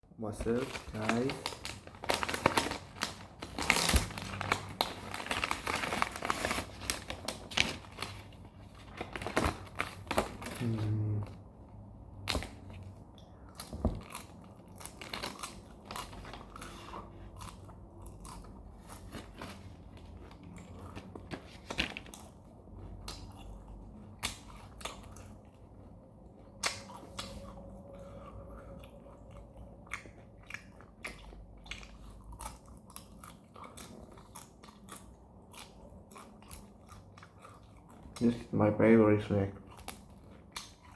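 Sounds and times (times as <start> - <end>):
dried fish being chewed crunchily: 0.4 - 40.9.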